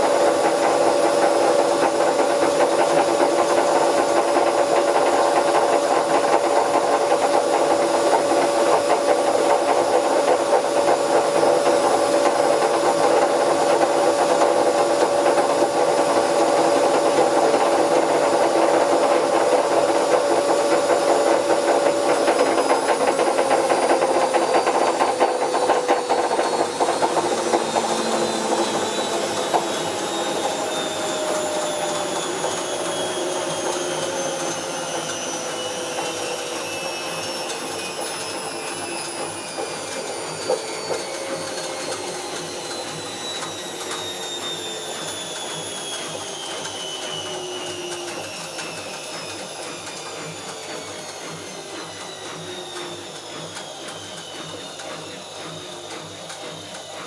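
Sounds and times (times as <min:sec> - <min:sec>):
washing machine drum whining: 0:00.0 - 0:57.0.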